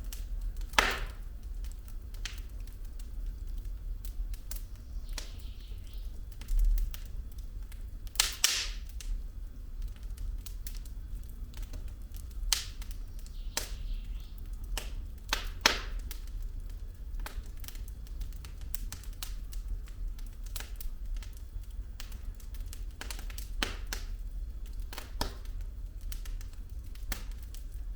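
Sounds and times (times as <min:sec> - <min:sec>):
logs crackling and popping: 0:00.0 - 0:27.9
low rumble of flames: 0:00.0 - 0:27.9.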